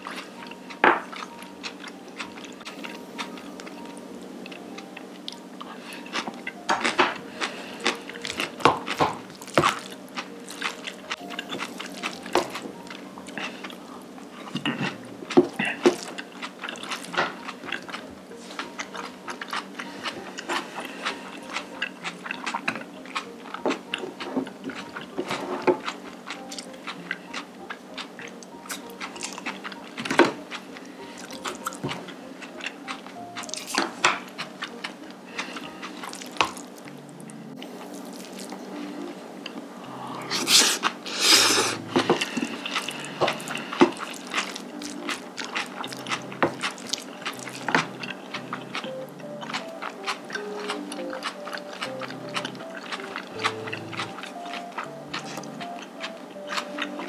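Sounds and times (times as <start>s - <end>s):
person chewing noodles: 0.0s - 57.0s
crunching: 5.2s - 37.0s, 40.3s - 57.0s.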